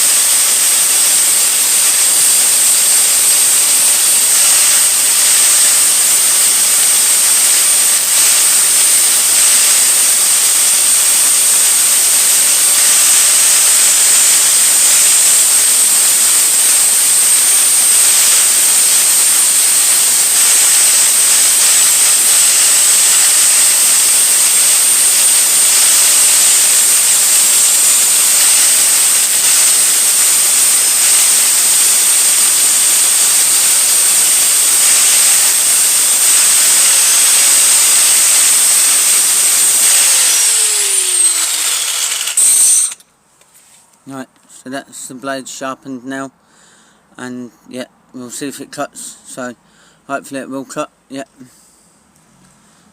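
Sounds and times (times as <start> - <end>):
grinder sharpening metal blade: 0.0 - 43.0.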